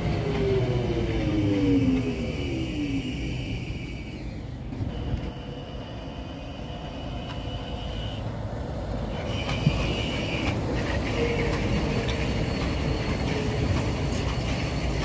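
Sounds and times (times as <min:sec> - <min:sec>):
tram motor whine: 0:00.0 - 0:15.0
tram rumble with high whine: 0:00.0 - 0:15.0.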